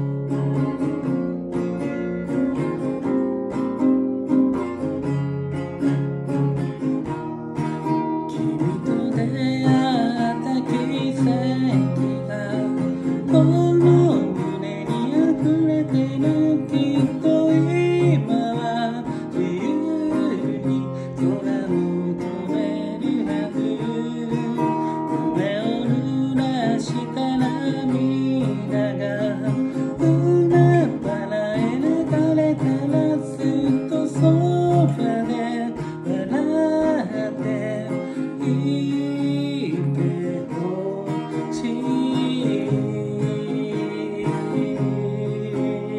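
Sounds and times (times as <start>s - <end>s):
acoustic guitar strumming: 0.0s - 45.9s
person singing: 0.0s - 45.9s.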